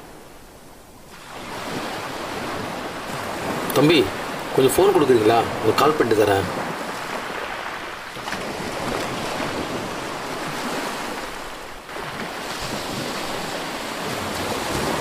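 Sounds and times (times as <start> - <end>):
sea surf washing on beach: 0.0 - 15.0
wind buffeting microphone: 0.0 - 15.0.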